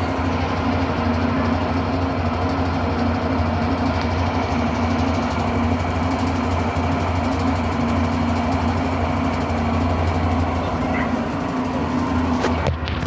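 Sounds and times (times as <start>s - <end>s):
washing machine spinning hum: 0.0s - 13.0s.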